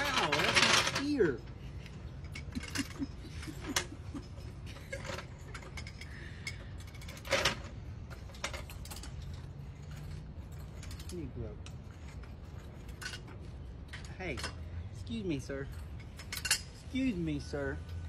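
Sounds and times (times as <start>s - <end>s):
hand tool clicking and clanking: 0.0s - 14.7s, 15.6s - 16.9s.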